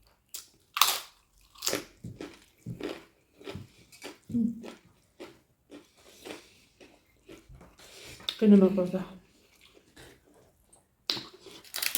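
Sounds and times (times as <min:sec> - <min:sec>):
person chewing food: 0:00.0 - 0:08.4, 0:09.2 - 0:11.9.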